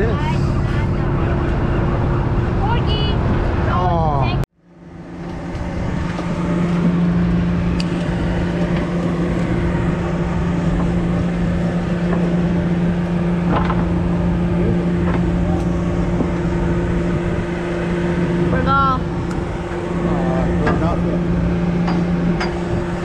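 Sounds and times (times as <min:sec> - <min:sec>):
boat engine humming: 0:00.0 - 0:23.0
rushing water and wind: 0:00.0 - 0:23.0.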